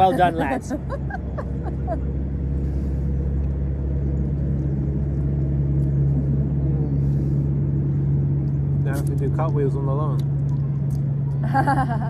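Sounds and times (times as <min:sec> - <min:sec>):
low rumble with constant hum: 0:00.0 - 0:12.0.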